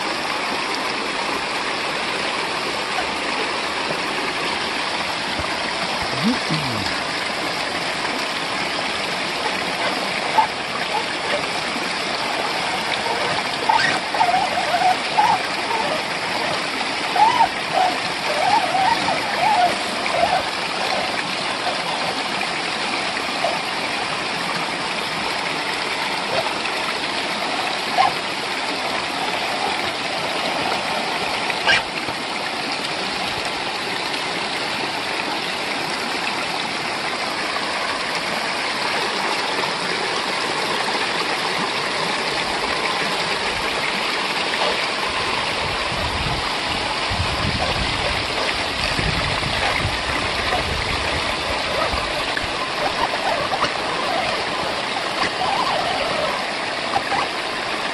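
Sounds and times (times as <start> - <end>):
waterfall rushing over rocks: 0.0 - 57.9.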